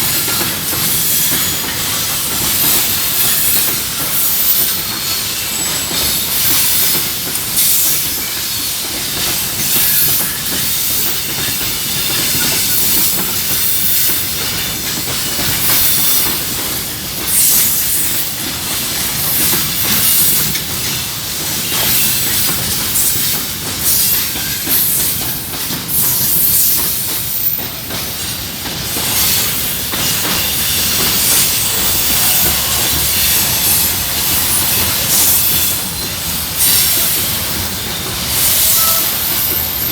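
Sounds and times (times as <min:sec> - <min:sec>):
train wagon clacks: 0:00.0 - 0:39.9
train wheels rushing on rail: 0:00.0 - 0:39.9.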